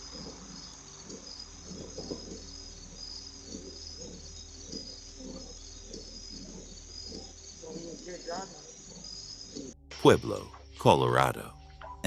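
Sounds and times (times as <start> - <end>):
crickets chirping: 0.0 - 9.8.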